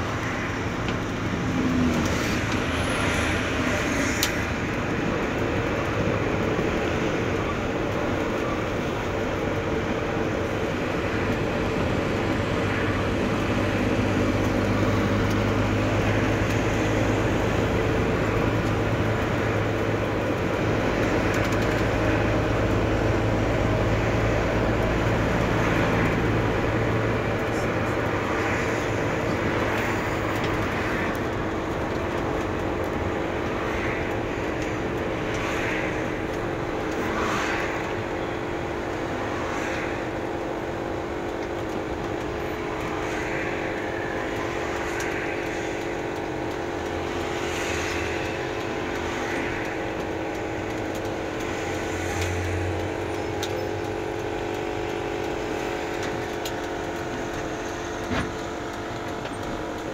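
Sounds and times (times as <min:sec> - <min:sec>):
road noise inside cabin: 0:00.0 - 0:59.9
vehicle engine hum: 0:00.0 - 0:59.9.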